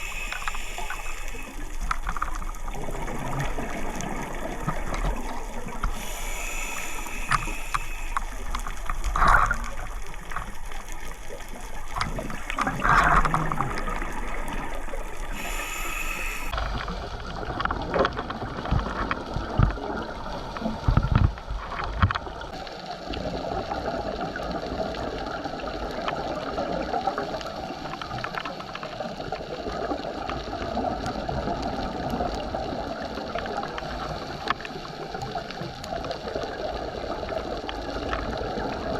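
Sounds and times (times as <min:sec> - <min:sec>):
scuba exhaust bubbles: 0:00.0 - 0:38.9
underwater water noise gurgling: 0:00.0 - 0:38.9.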